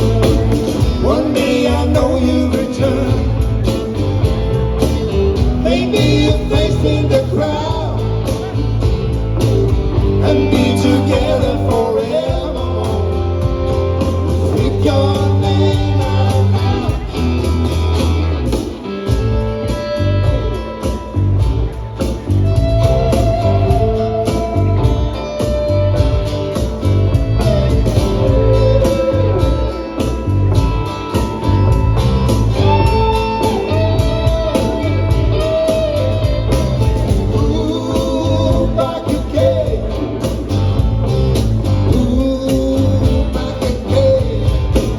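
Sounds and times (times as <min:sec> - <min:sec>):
live folk-rock band playing: 0:00.0 - 0:44.9.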